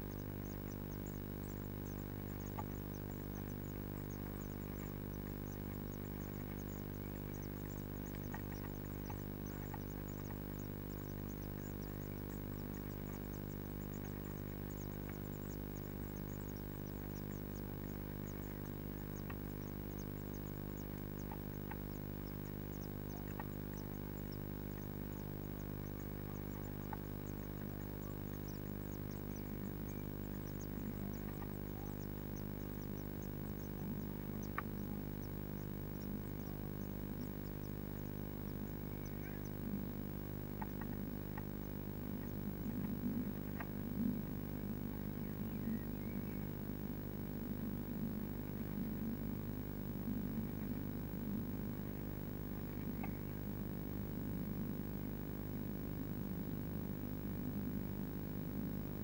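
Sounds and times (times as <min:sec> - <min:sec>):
electrical hum: 0:00.0 - 0:59.0
faint high ticking: 0:00.0 - 0:59.0.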